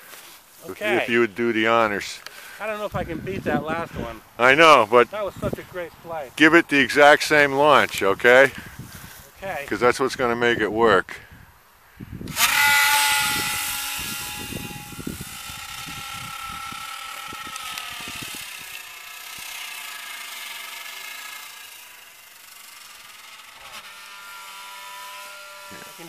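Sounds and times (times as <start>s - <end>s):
electric motor whining: 0.6s - 9.7s, 12.0s - 26.0s.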